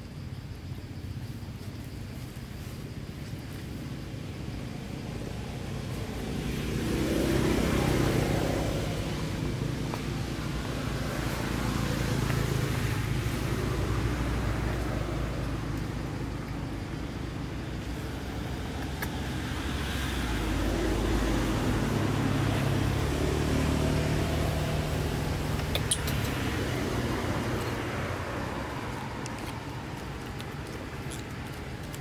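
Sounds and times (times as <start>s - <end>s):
passing vehicle engine hum: 3.8s - 32.0s.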